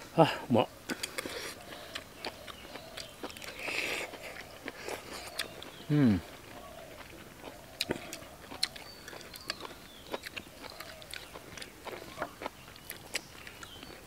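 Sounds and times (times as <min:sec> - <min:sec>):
close-up chewing: 0:00.8 - 0:14.0.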